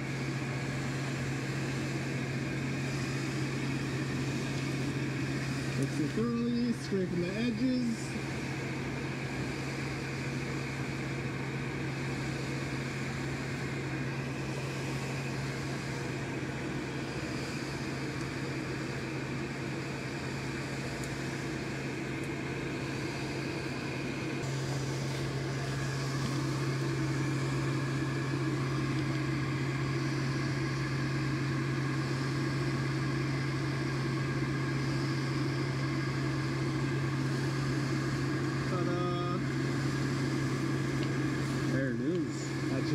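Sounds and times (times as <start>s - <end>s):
electric fan humming: 0.0s - 42.9s.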